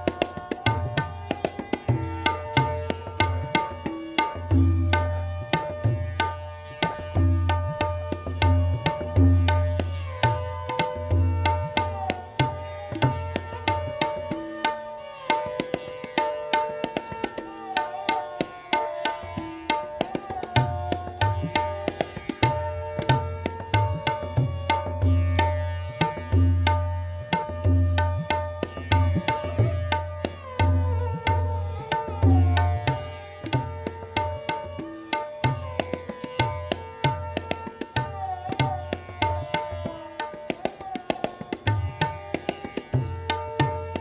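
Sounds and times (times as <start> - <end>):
sarangi melody: 0.0 - 44.0
tabla treble drum strokes: 0.0 - 44.0.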